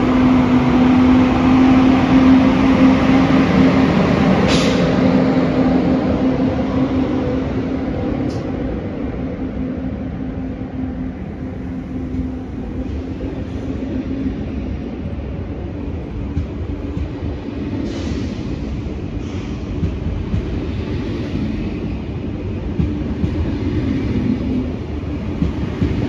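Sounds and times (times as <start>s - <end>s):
train rumbling by: 0.0s - 26.0s.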